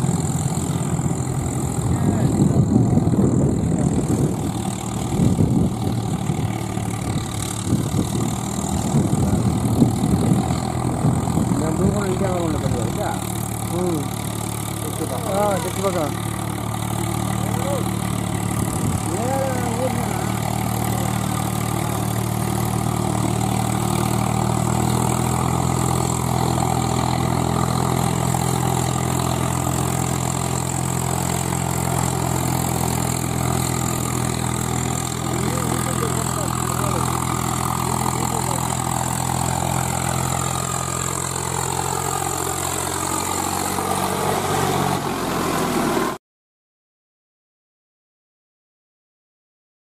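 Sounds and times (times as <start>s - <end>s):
tractor diesel engine running: 0.0s - 46.2s.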